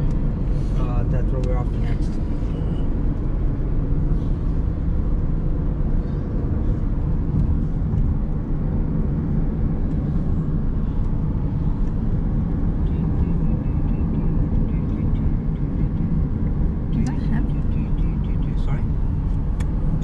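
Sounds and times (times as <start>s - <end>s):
car driving interior rumble: 0.0s - 20.0s.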